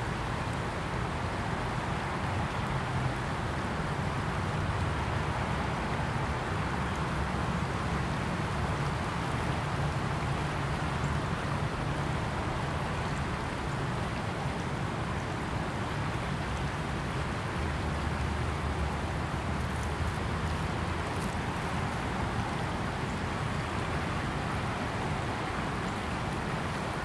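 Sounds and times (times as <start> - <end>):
river rushing and splashing: 0.0 - 27.0.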